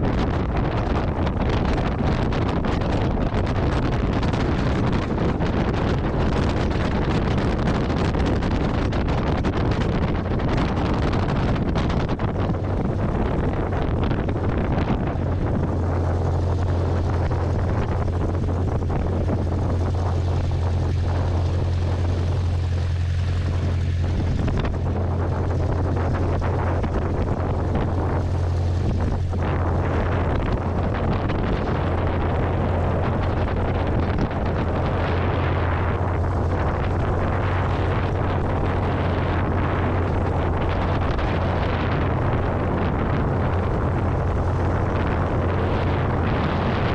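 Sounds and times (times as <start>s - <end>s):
light airplane engine droning: 0.0s - 46.9s.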